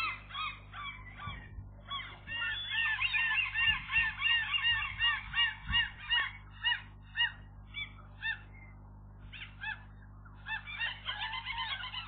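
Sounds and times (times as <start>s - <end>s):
gull calling: 0.0s - 12.0s.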